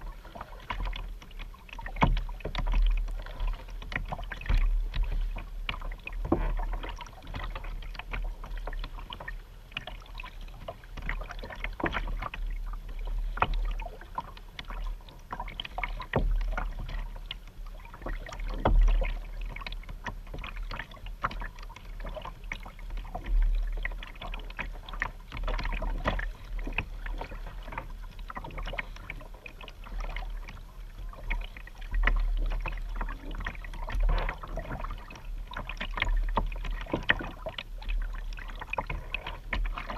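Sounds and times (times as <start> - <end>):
paddle splashing in water: 0.0 - 39.9
water around hull: 0.0 - 39.9.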